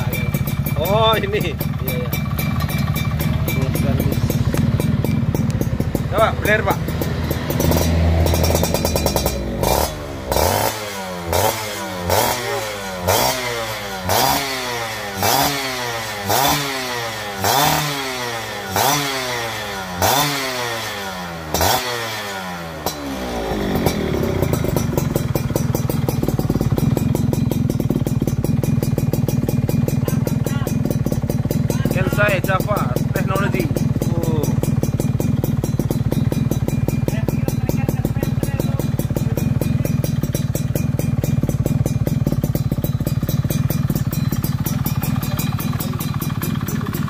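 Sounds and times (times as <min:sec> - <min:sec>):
two-stroke engine revving: 0:00.0 - 0:47.0.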